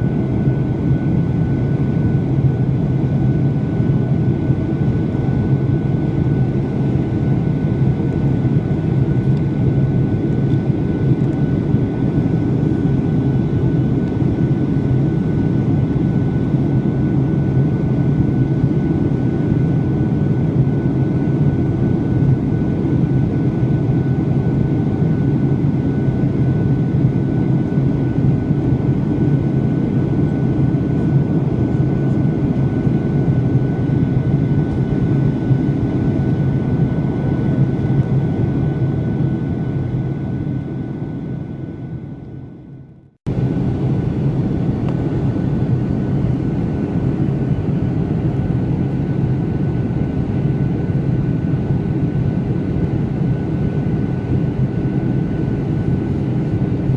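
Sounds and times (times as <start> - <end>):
airliner cabin drone: 0.0 - 56.9.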